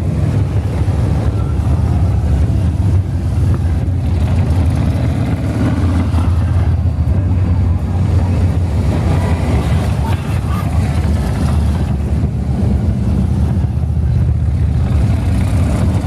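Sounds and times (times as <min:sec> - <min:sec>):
motorcycles riding past: 0:00.0 - 0:16.0.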